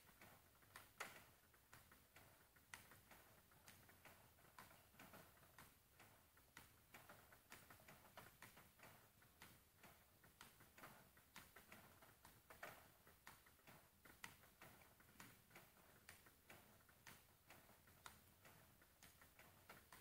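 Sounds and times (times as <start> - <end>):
table tennis balls ticking: 0.1 - 20.0.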